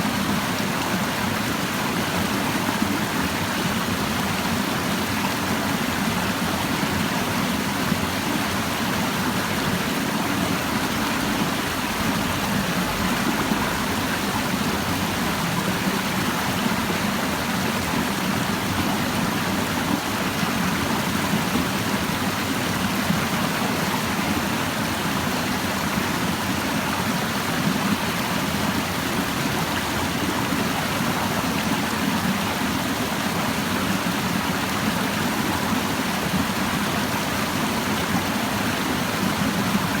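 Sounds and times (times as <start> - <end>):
stream babbling over rocks: 0.0 - 40.0.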